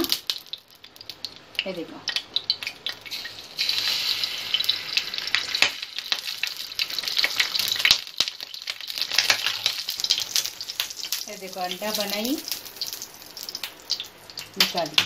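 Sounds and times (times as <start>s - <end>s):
crackling pops: 0.0s - 15.0s
egg sizzling in hot oil: 0.0s - 15.0s.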